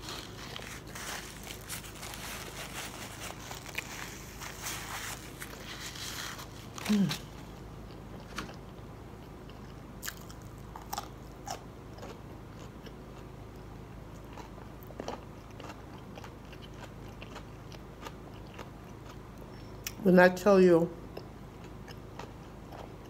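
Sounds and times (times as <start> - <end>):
person chewing fried food: 0.0 - 20.0, 21.1 - 23.0
low steady hum: 0.0 - 23.0.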